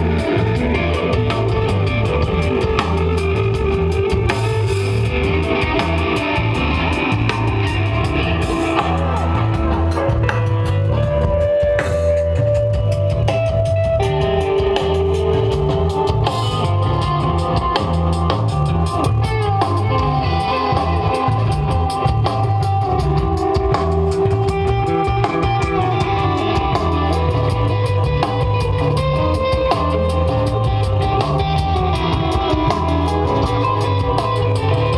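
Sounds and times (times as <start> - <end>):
drum kit beat: 0.0 - 34.9
electric guitar sustained notes: 0.0 - 34.9
heavy bass: 0.0 - 34.9.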